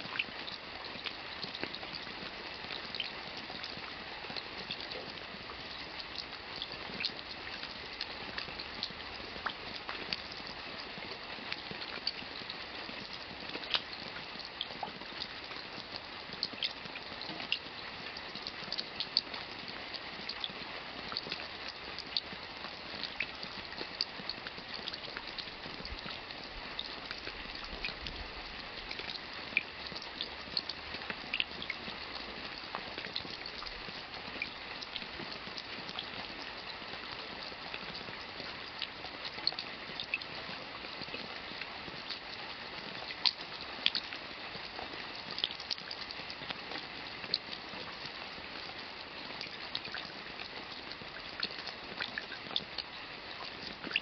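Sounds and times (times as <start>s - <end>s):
rain hissing and splattering: 0.0s - 54.0s.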